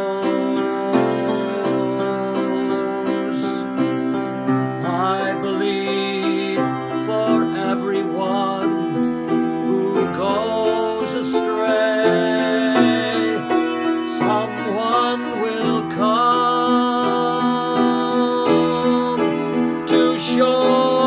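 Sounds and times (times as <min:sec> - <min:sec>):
man singing a slow ballad: 0:00.0 - 0:21.0
piano chords: 0:00.0 - 0:21.0.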